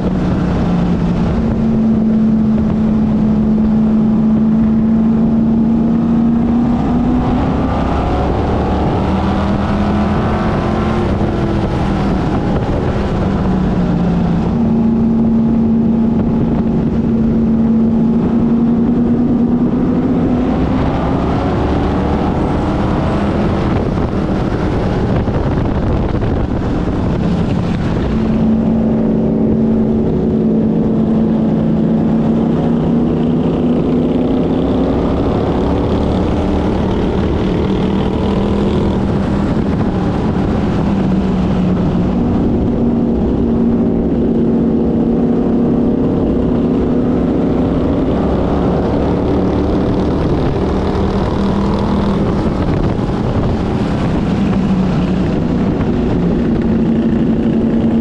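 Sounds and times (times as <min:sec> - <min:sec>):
race car engine: 0:00.0 - 0:58.0.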